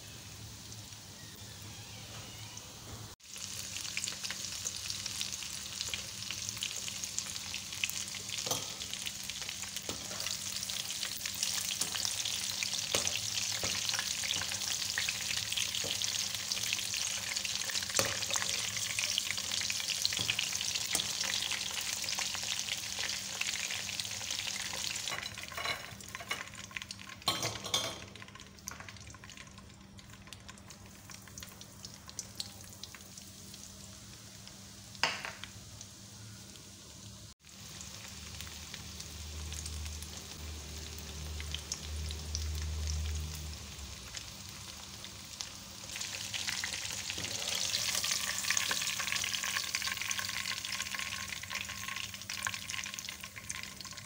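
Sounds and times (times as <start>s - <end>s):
chicken frying in oil: 3.2s - 54.0s.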